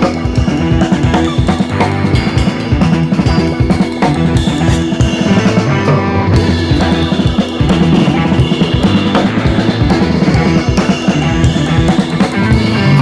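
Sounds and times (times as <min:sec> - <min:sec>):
instrumental music with drum beat: 0:00.0 - 0:13.0.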